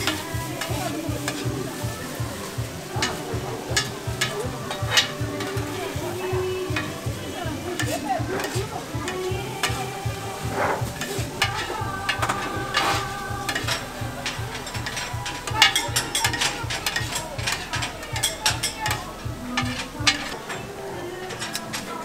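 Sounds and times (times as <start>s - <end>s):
food sizzling on griddle: 0.0s - 22.0s
utensil clicking on griddle: 0.0s - 22.0s.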